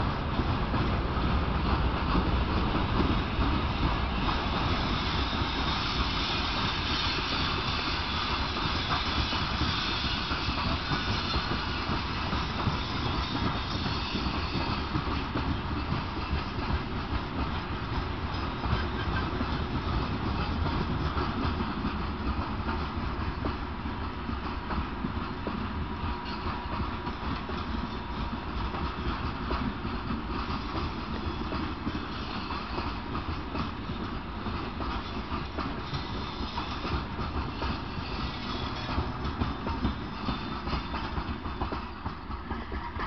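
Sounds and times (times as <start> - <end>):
steel wheels rumbling on rail: 0.0 - 43.0
wheels clacking over rail joints: 0.2 - 43.0.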